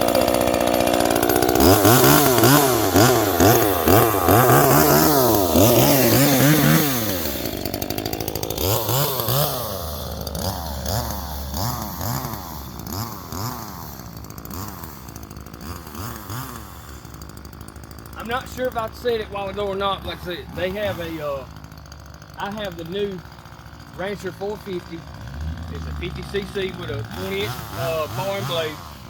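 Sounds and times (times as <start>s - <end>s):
chainsaw revving: 0.0s - 29.0s.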